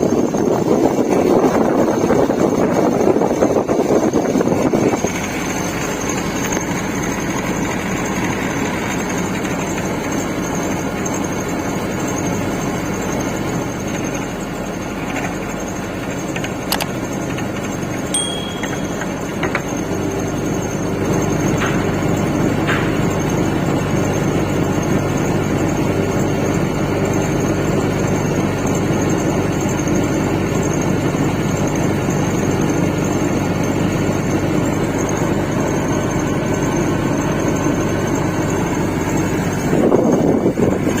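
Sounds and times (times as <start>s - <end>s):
air conditioner compressor humming: 0.0s - 41.0s.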